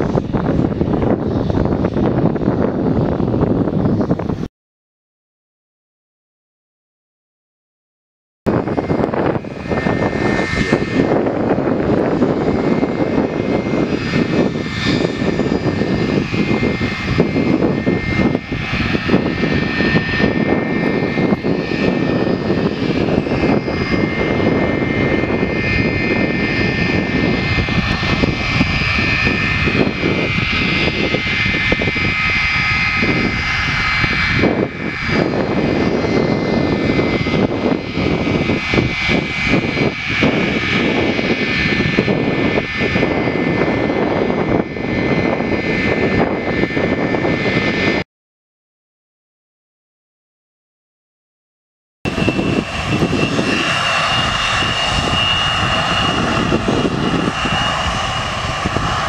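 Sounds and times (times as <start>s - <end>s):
high engine whine: 0.0s - 4.5s, 8.5s - 48.0s, 52.1s - 59.0s
jet engines at takeoff power: 0.0s - 4.5s, 8.5s - 48.1s, 52.1s - 59.0s.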